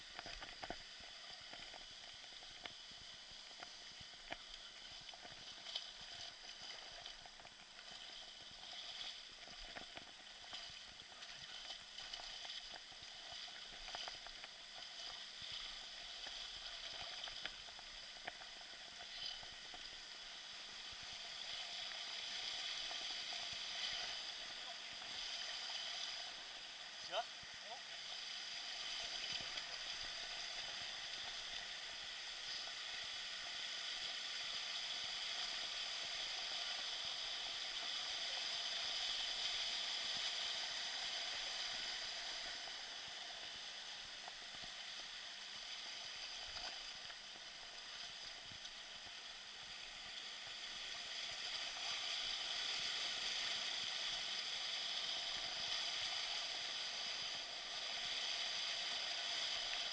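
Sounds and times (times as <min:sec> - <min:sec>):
flowing stream: 0:00.0 - 0:59.9.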